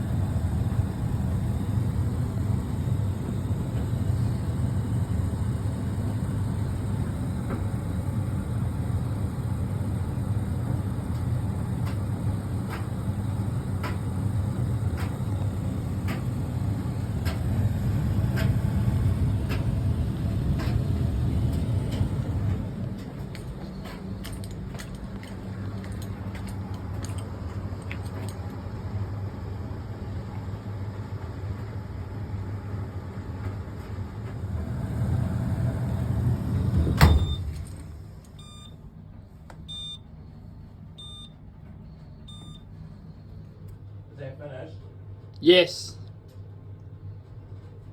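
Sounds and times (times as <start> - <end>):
clothes dryer drum rumbling: 0.0 - 38.5.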